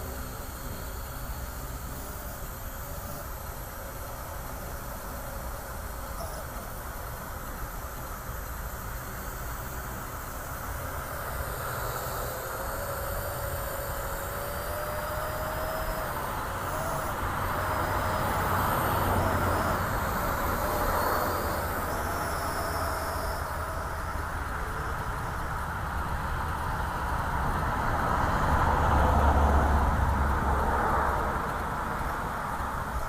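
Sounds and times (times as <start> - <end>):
quadcopter propellers whirring: 0.0 - 33.0.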